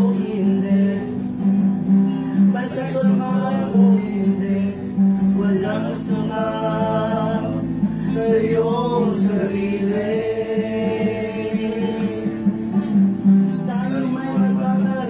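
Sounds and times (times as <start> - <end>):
men singing a hymn: 0.0 - 1.5, 2.1 - 15.0
strummed acoustic guitar: 0.0 - 15.0.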